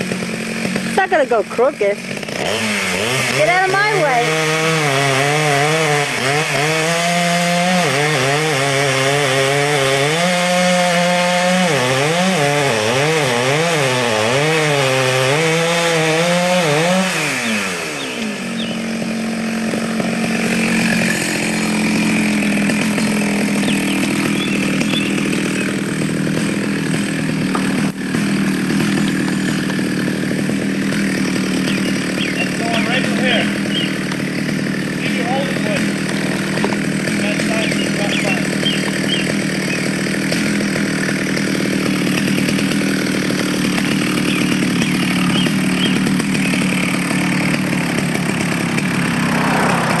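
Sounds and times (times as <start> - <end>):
chainsaw cutting and revving: 0.0 - 50.0.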